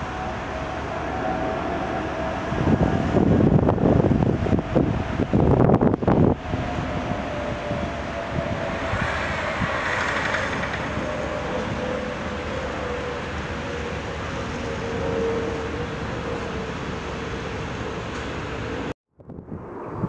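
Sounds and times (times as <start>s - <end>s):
jet airliner engines droning overhead: 0.0s - 20.0s.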